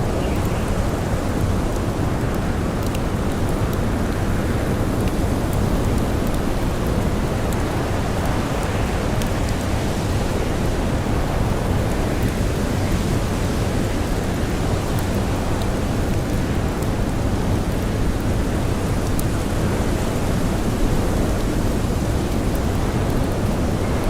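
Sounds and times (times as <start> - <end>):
campfire crackles: 0.0 - 24.0.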